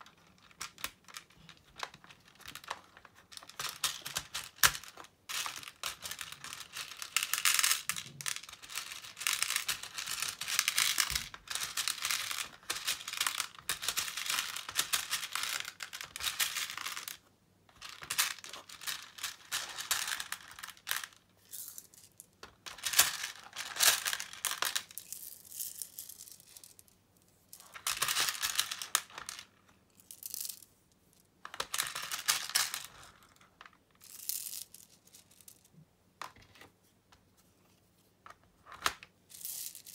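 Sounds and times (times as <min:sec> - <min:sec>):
plastic beads clattering: 0:00.0 - 0:30.7, 0:31.4 - 0:35.7, 0:38.7 - 0:39.9.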